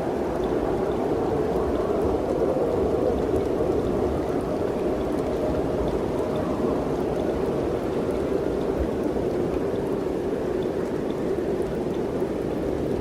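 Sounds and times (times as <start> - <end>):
faint light ticks: 0.0 - 2.4, 3.1 - 13.0
mountain wind blowing: 0.0 - 13.0.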